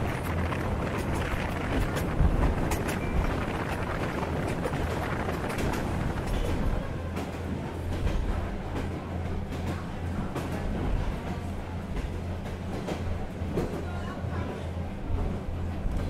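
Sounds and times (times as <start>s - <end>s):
wheels clicking on rails: 0.0s - 14.5s
train hum and rushing: 0.0s - 16.0s.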